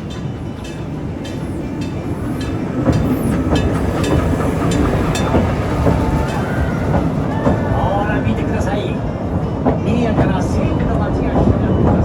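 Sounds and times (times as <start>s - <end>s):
steam train rumbling over bridge: 0.0s - 12.0s.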